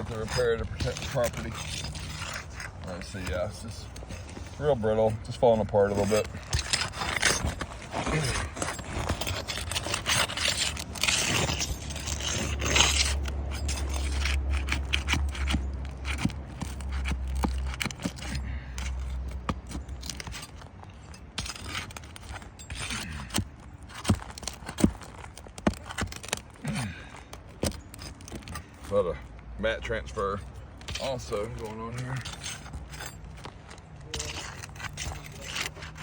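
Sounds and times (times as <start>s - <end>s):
shingles scraping and crackling: 0.0s - 36.0s.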